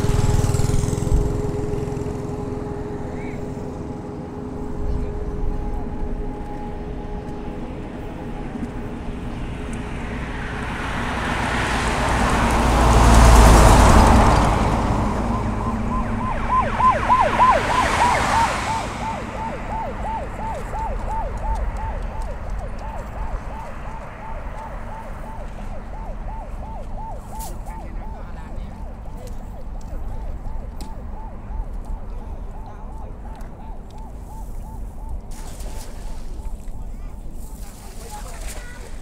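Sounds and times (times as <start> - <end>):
vehicle passing by: 0.0 - 39.0
high chirping siren yelp: 1.3 - 11.0, 13.0 - 37.6.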